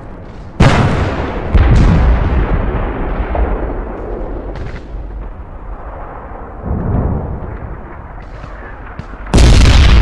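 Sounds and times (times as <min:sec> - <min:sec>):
deep rumbling of distant explosions: 0:00.0 - 0:10.0.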